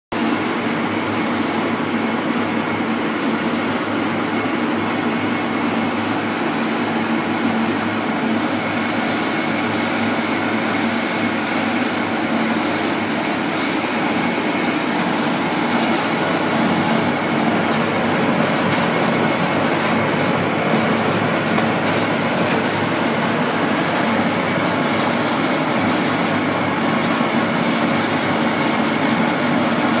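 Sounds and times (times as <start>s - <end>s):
pellet mill grinding rumble: 0.2s - 30.0s.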